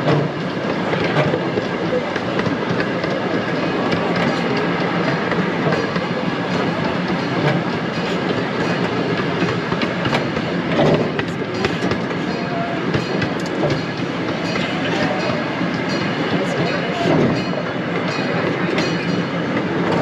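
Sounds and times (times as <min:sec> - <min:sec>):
train wheels rumbling and rattling: 0:00.0 - 0:20.0.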